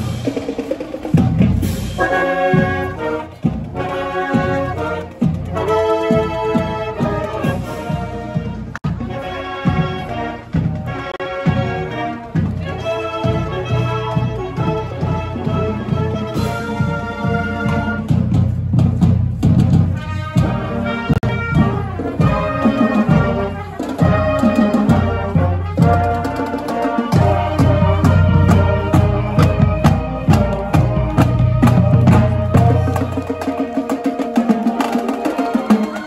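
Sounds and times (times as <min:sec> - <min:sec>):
bass drum and cymbals: 0:00.0 - 0:36.0
marching band brass: 0:00.0 - 0:36.0.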